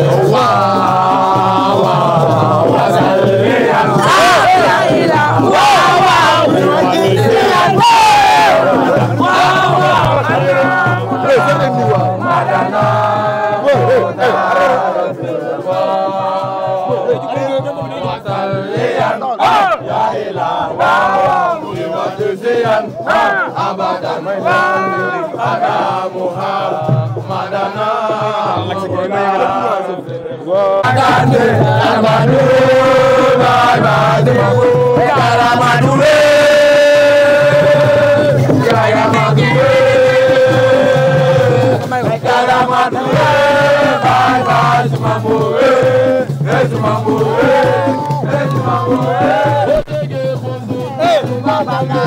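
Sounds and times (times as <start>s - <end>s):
steady beat: 0.0s - 30.2s, 30.8s - 52.0s
crowd chanting and singing: 0.0s - 52.0s.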